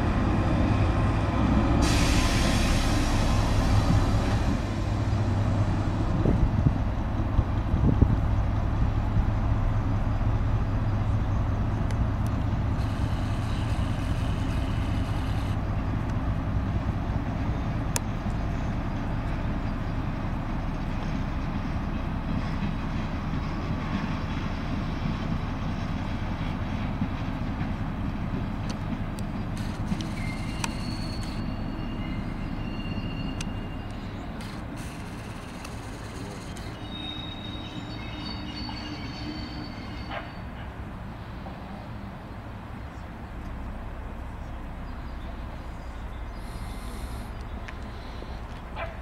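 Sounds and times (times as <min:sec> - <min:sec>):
diesel locomotive engine drone: 0:00.0 - 0:49.0.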